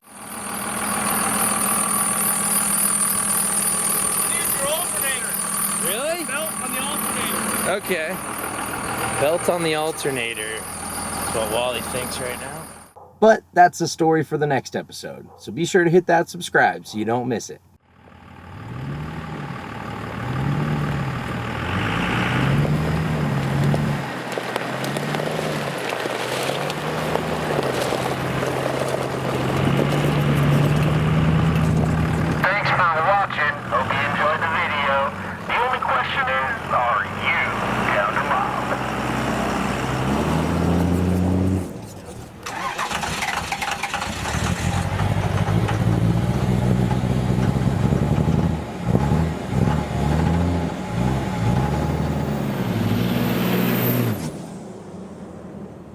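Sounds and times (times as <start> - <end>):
vehicle engine running: 0.0 - 13.0, 17.8 - 52.9
road and wind noise: 0.0 - 13.2, 17.6 - 55.9.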